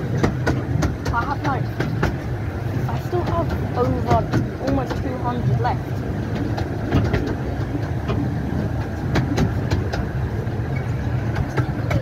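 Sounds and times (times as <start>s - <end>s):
miniature train rumbling: 0.0s - 12.0s
wheels clicking and clacking: 0.0s - 12.0s.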